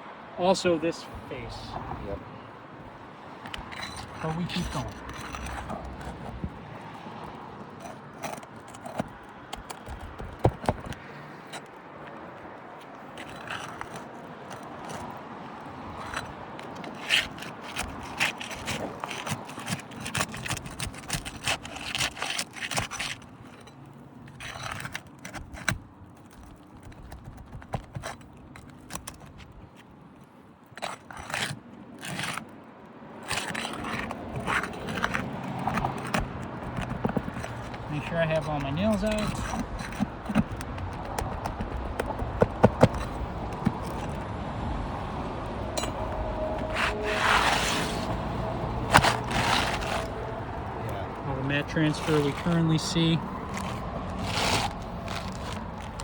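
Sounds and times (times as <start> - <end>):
tool scraping under shingles: 2.8 - 56.0.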